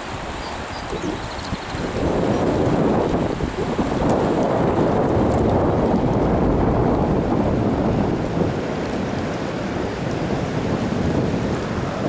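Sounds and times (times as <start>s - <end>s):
river rushing over rocks: 0.0s - 12.0s
wind buffeting microphone: 0.0s - 12.0s.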